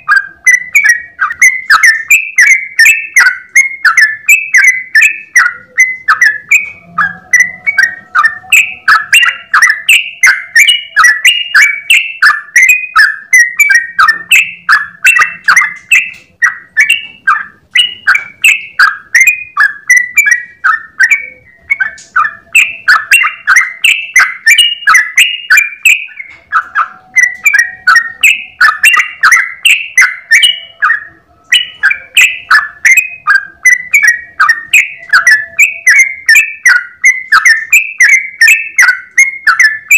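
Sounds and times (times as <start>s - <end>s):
bird singing bubbling chirps: 0.0s - 39.9s.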